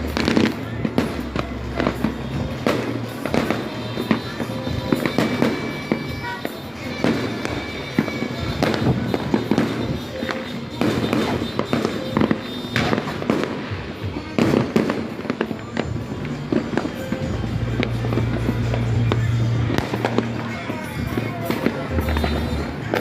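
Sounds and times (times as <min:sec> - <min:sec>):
fireworks and firecrackers banging: 0:00.0 - 0:23.0.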